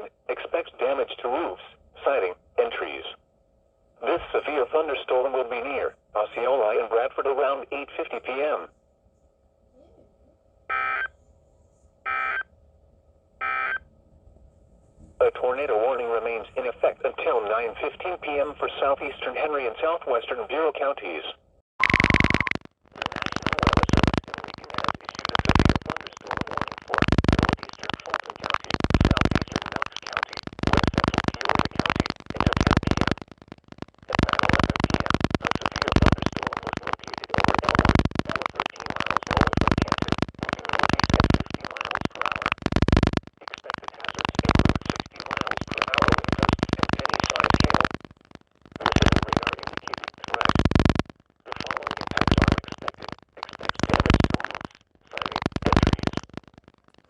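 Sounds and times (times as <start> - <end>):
distorted radio alert broadcast: 4.0 - 8.7, 15.2 - 56.6.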